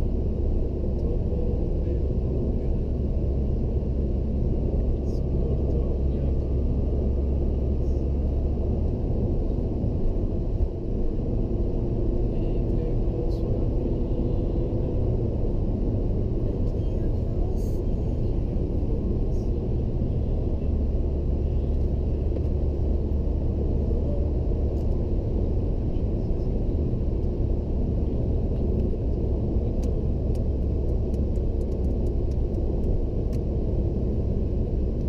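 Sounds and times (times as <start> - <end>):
road and tyre rumble in car: 0.0 - 35.0.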